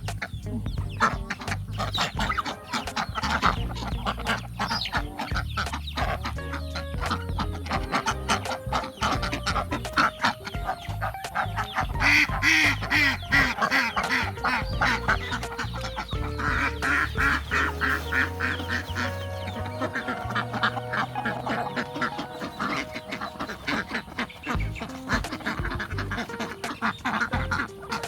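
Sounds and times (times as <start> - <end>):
background music: 0.0 - 28.0
ducks quacking: 0.0 - 28.0.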